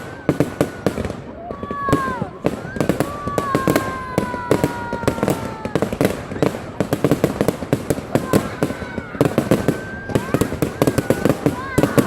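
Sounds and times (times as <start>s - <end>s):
fireworks bangs and cracks: 0.0s - 12.0s
fireworks whistles falling in pitch: 0.0s - 12.0s.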